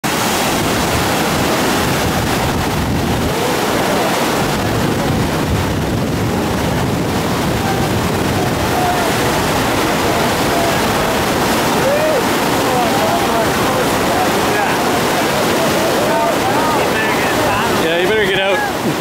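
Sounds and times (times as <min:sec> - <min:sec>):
river water rushing: 0:00.0 - 0:19.0
wind buffeting microphone: 0:00.0 - 0:19.0.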